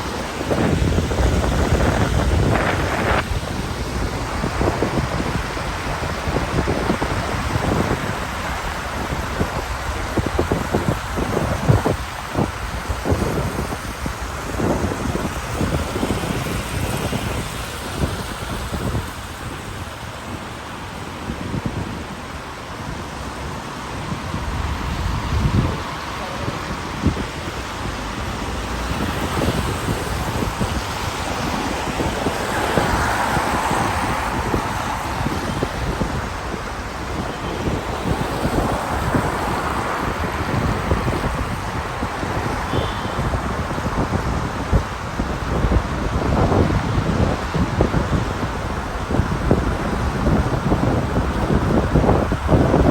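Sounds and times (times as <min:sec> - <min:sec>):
low rumbling gusts: 0:00.0 - 0:52.9
steady rain: 0:00.0 - 0:52.9
wind buffeting microphone: 0:00.0 - 0:52.9.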